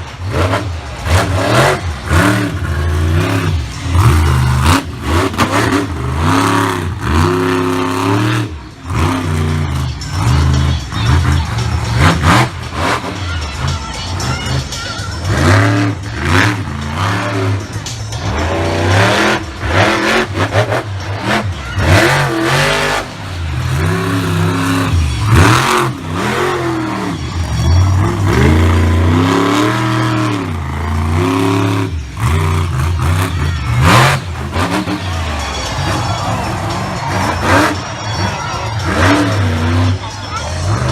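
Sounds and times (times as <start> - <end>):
truck engines revving hard: 0.0 - 40.9.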